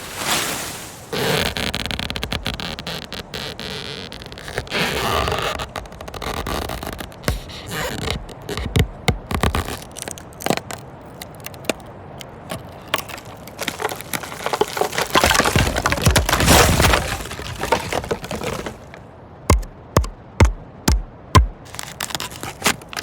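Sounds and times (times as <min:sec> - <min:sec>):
wood crunching and cracking: 0:00.0 - 0:23.0.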